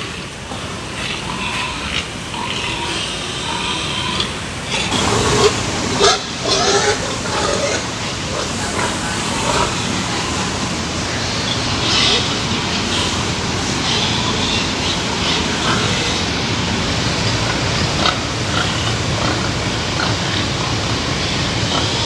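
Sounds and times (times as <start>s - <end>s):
noisy background: 0.0s - 22.0s
pigs grunting and calling: 0.0s - 22.0s.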